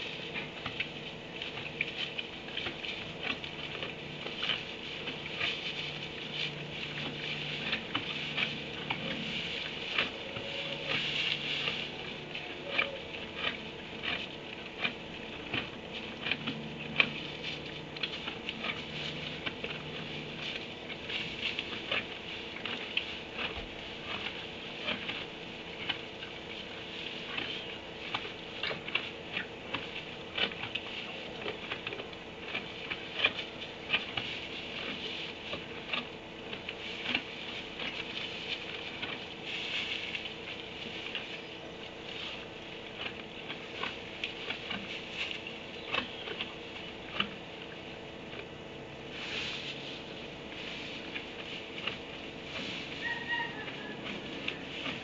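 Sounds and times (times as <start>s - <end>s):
steady electrical hum: 0.0s - 55.0s.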